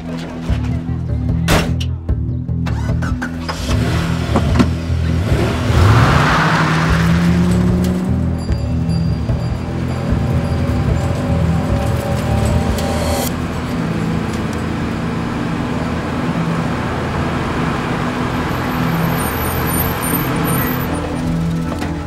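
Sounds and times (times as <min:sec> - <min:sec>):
car engine running: 0:02.6 - 0:22.0.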